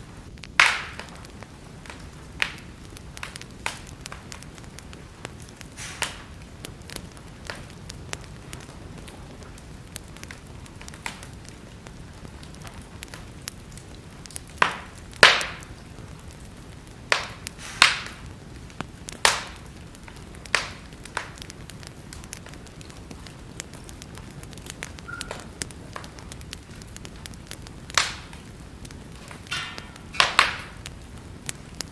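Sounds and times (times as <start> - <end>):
loud sharp fire pops: 0.0 - 31.9
wood fire crackling: 0.0 - 31.9.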